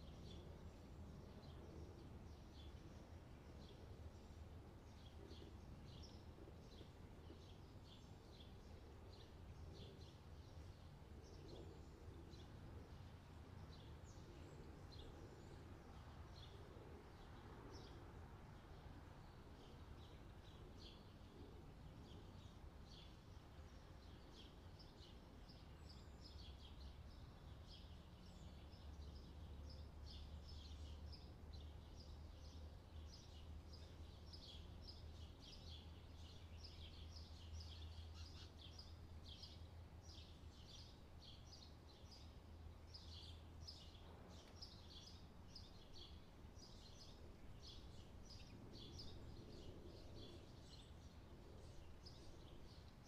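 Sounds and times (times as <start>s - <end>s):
low steady hum: 0.0s - 53.0s
small birds chirping: 0.0s - 53.0s.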